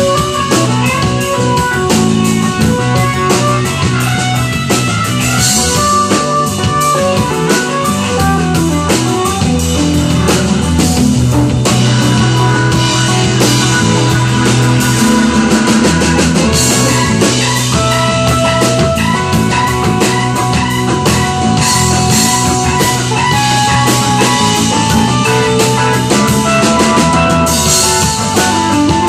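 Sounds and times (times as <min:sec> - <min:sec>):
drum kit: 0:00.0 - 0:29.0
electric bass: 0:00.0 - 0:29.0
electric guitar: 0:00.0 - 0:29.0
electric keyboard: 0:00.0 - 0:29.0.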